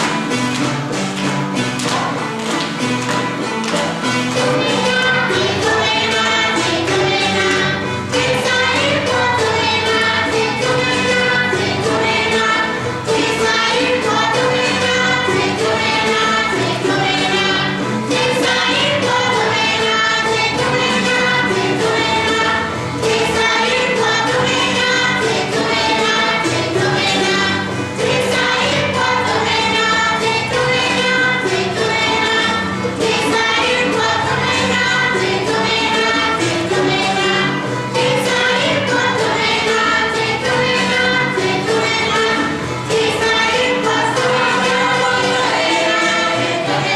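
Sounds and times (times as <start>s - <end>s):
group singing together: 0.0s - 46.9s
percussion: 0.0s - 46.9s
xylophone: 0.0s - 46.9s.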